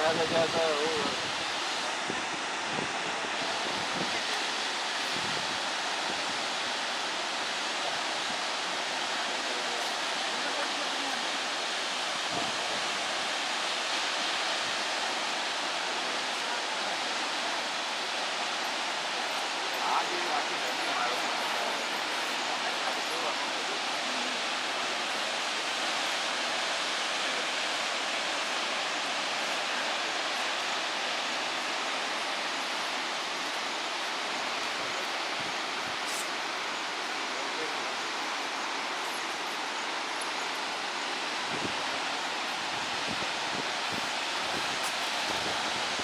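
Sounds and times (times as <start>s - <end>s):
river rushing: 0.0s - 46.0s
waterfall rushing: 0.0s - 46.0s.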